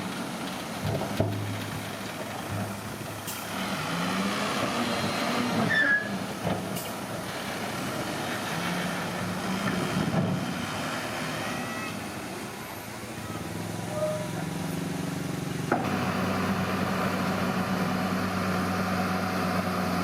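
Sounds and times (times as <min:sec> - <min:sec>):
diesel engine of earthmoving machinery: 0:00.0 - 0:20.0.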